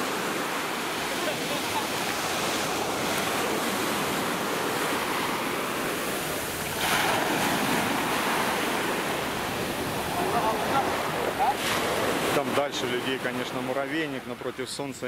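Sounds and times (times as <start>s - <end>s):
waves breaking on a sandy beach: 0.0s - 15.0s.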